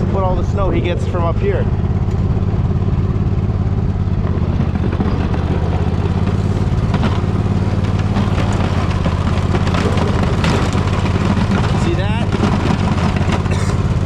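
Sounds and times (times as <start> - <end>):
riding mower engine under load: 0.0 - 14.0.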